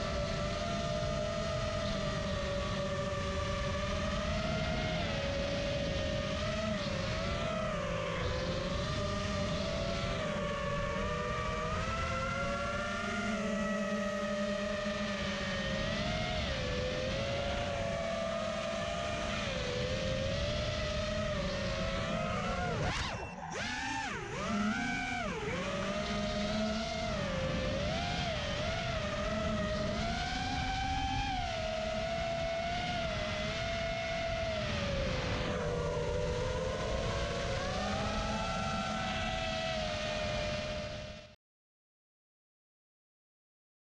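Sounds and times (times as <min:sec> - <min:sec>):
quadcopter motors whining: 0:00.0 - 0:41.3.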